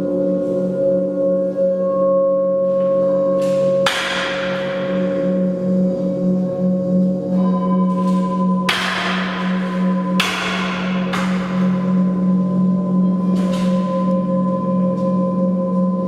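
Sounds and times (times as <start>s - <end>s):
resonant metal percussion ringing: 0.0s - 16.0s.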